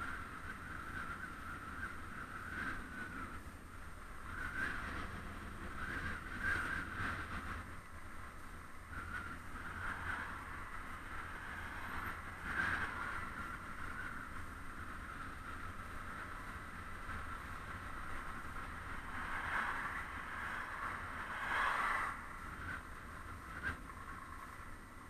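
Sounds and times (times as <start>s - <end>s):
bicycle rolling noise: 0.0s - 25.0s
wind noise: 0.0s - 25.0s
passing motor traffic: 4.8s - 25.0s.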